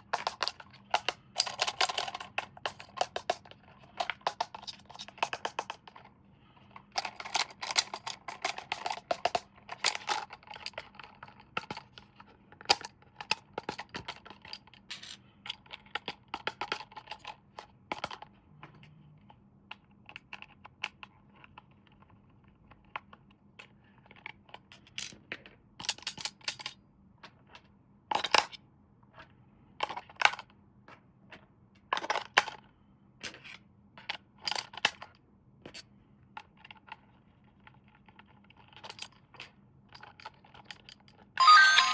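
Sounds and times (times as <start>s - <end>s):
plastic toys clicking and tapping: 0.0s - 28.6s, 29.8s - 41.9s.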